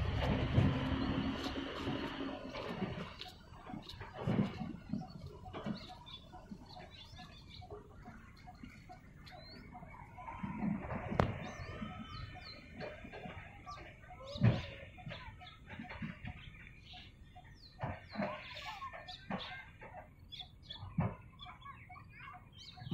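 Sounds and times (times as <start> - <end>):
outdoor background noise: 0.0 - 22.9
small birds chirping: 0.7 - 22.9.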